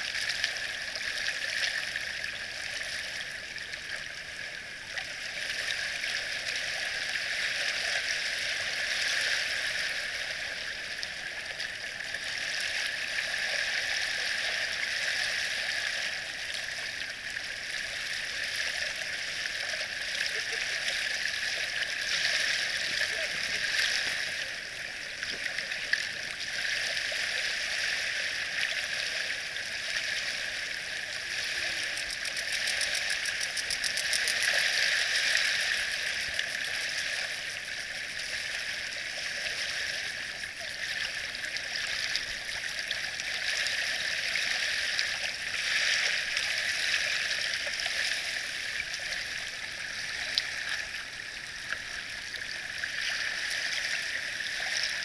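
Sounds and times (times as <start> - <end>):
small waves lapping on pebbles: 4.7 - 55.0.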